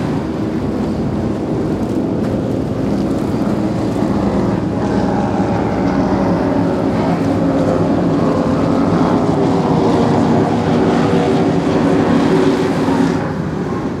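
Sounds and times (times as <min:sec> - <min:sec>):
powerboat engines droning: 0:00.0 - 0:14.0
rushing water: 0:00.0 - 0:14.0
wind noise: 0:00.0 - 0:14.0.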